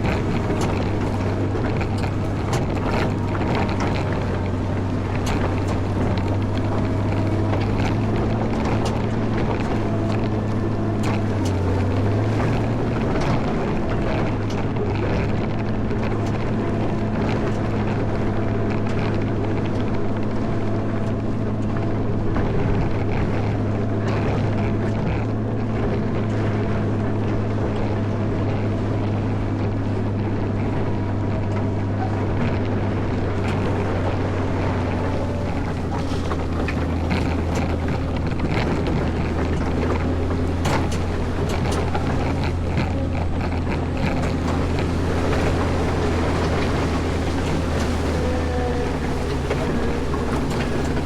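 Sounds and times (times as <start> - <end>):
diesel engine humming: 0.0 - 51.0
faint clicks and knocks: 0.0 - 51.0.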